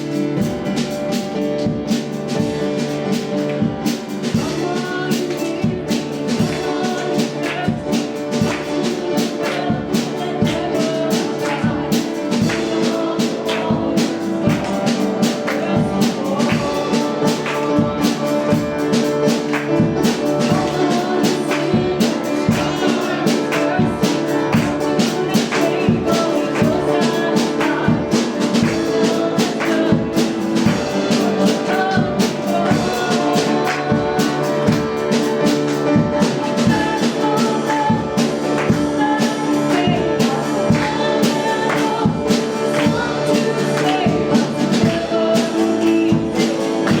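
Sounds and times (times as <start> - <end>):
piano: 0.0 - 47.0
steady drum beat: 0.0 - 47.0
worship band music: 0.0 - 47.0.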